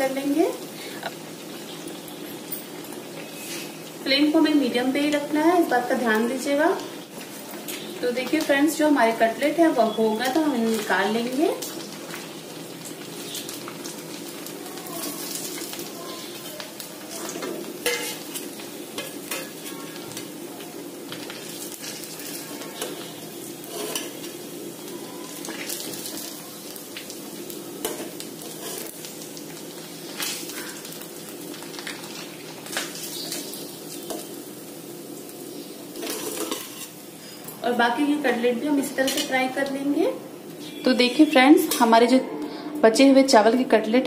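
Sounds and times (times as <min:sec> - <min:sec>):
food sizzling in hot oil: 0:00.0 - 0:42.2.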